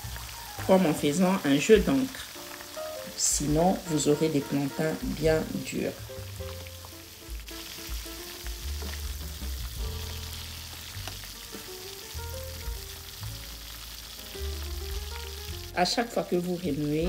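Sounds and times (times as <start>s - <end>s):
background music with bass: 0.0s - 1.2s, 1.8s - 17.0s
plantain frying in oil sizzling: 0.0s - 17.0s.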